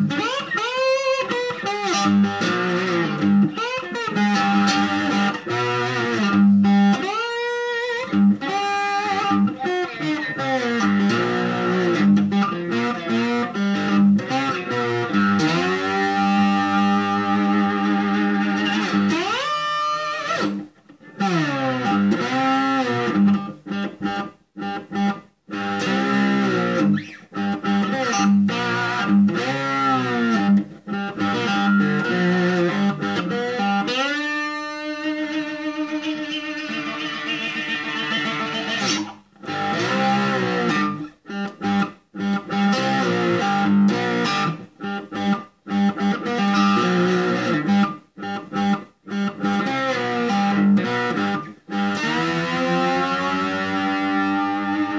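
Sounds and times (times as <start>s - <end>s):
electric slide guitar gliding notes: 0.0s - 20.6s, 21.2s - 54.9s.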